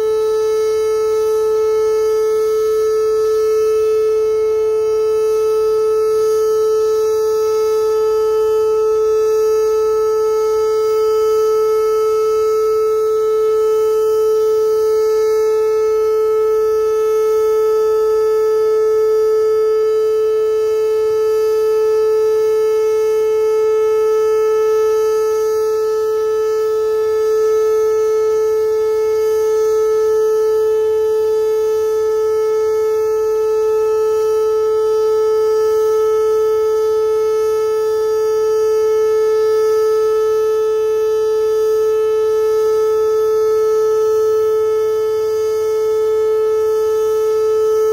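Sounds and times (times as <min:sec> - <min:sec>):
warning siren steady tone: 0:00.0 - 0:47.9.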